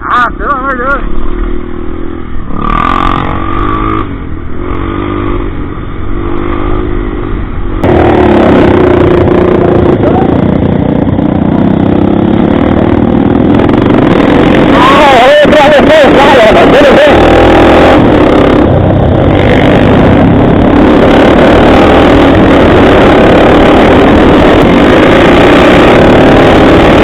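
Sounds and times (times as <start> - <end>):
dense rushing noise: 0.0 - 27.0
motorcycle engine running: 0.0 - 27.0.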